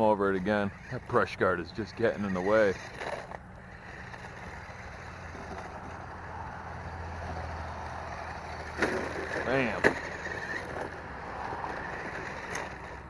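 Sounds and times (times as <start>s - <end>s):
toy truck electric drive hum: 0.0s - 13.0s.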